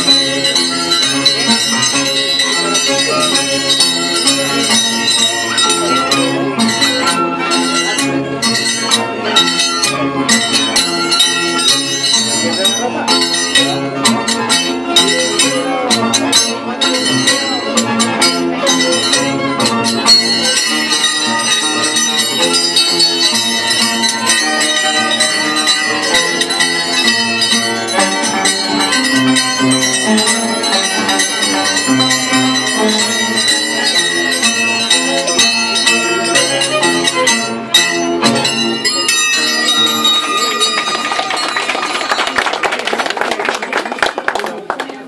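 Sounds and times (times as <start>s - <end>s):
steel blades clinking: 0.0s - 41.6s
harp and violin tune: 0.0s - 42.0s.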